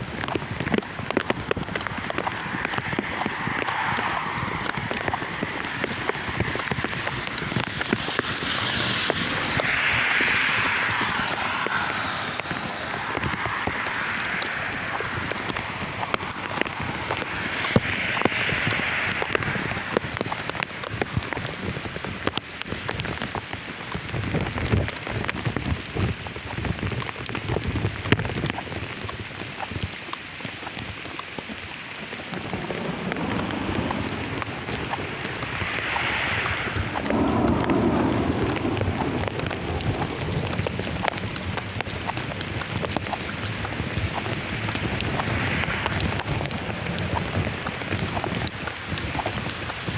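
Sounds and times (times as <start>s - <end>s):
raindrops ticking over rain hiss: 0.0s - 49.9s.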